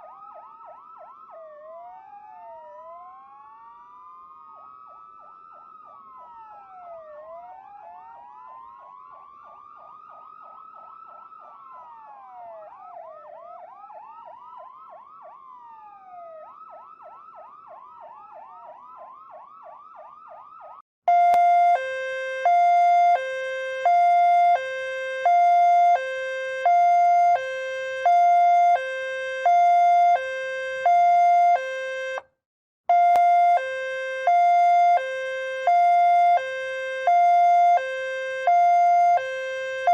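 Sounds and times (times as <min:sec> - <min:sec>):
ambulance sirens wailing and yelping: 0:00.0 - 0:32.2, 0:32.9 - 0:39.9
loud two-tone hi-lo siren: 0:00.0 - 0:39.9.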